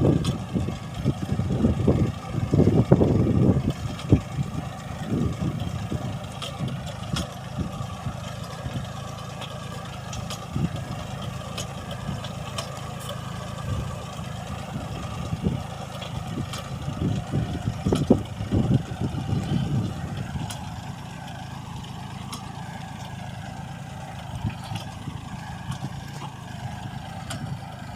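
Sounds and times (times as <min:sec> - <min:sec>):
engine humming: 0:00.0 - 0:27.9.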